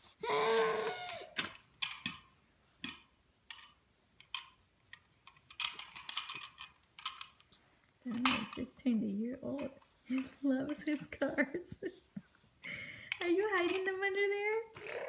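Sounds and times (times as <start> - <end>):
plastic toy cars clicking: 0.9 - 11.0, 13.1 - 15.0.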